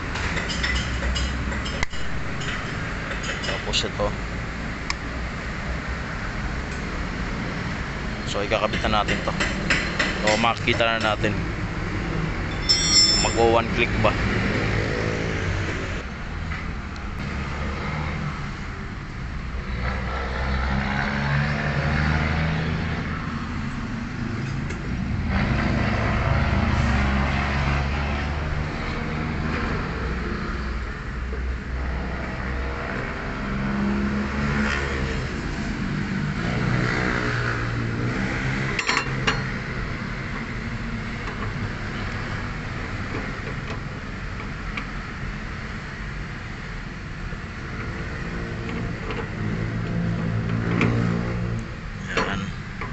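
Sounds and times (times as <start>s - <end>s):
vehicle engine noise: 0.0s - 52.9s.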